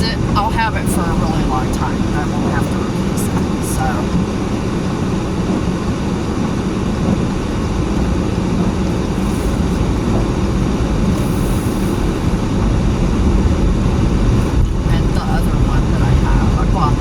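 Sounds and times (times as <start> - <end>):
car engine rumble: 0.0 - 17.0
road noise inside car: 0.0 - 17.0.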